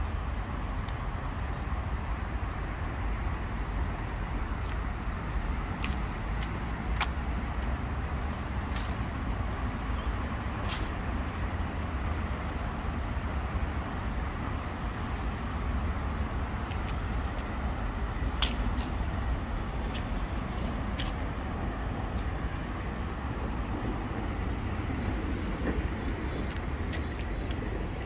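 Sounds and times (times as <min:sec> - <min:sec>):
city road traffic rumble: 0:00.0 - 0:28.0.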